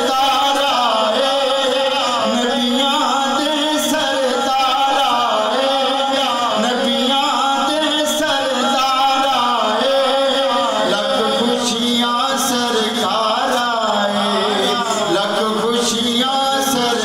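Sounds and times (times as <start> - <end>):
man singing devotional chant: 0.0 - 17.0.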